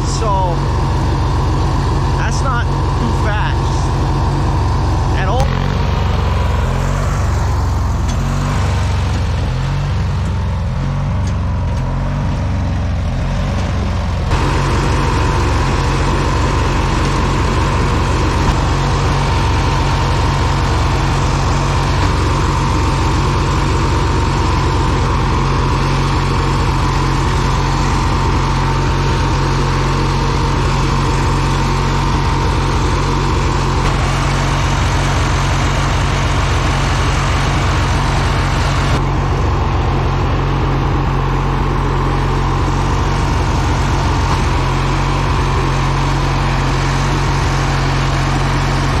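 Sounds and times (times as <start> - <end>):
lawn mower engine droning: 0.0 - 49.0.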